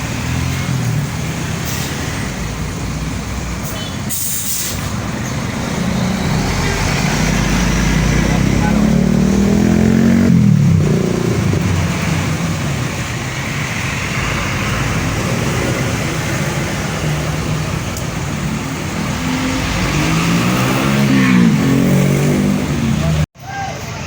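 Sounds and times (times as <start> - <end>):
bus engine running: 0.0 - 23.3
road traffic: 0.0 - 24.0.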